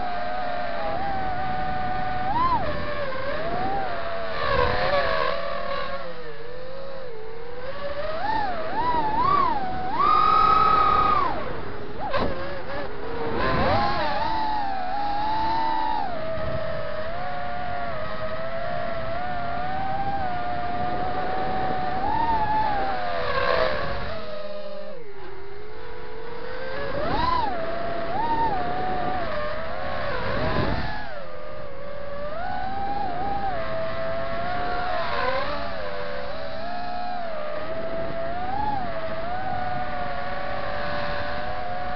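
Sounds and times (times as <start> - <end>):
drone motors whining: 0.0 - 41.9.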